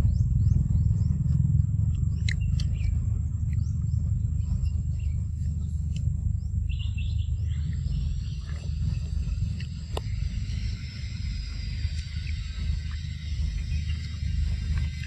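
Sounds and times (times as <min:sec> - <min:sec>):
bird chirps: 0:00.0 - 0:15.0
low rumble: 0:00.0 - 0:15.0.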